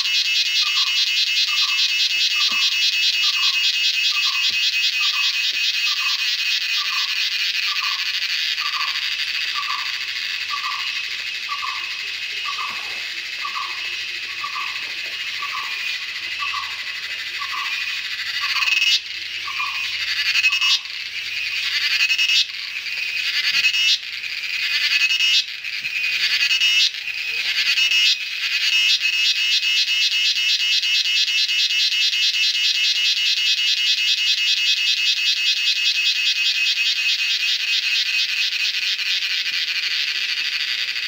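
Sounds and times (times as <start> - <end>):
cicadas buzzing: 0.0 - 41.0.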